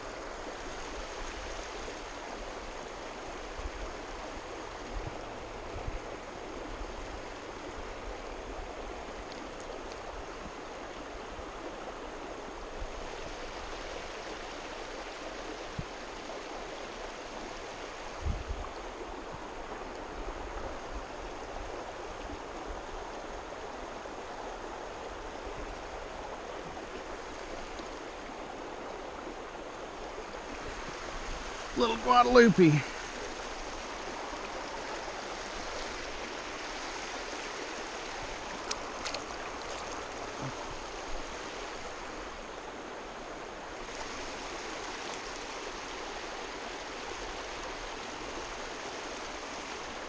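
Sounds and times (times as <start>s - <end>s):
river water running over rocks: 0.0s - 50.0s.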